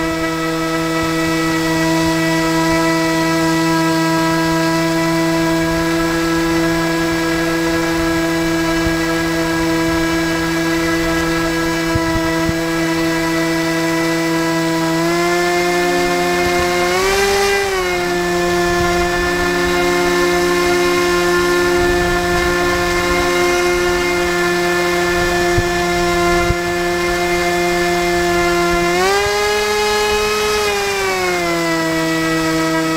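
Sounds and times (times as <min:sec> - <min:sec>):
rc airboat motor whine: 0:00.0 - 0:32.9.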